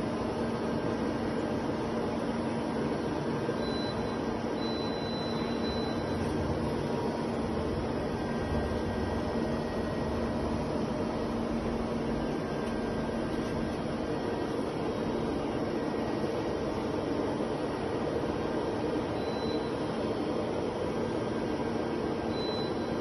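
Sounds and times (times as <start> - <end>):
lathe humming and hissing: 4.2 - 23.0.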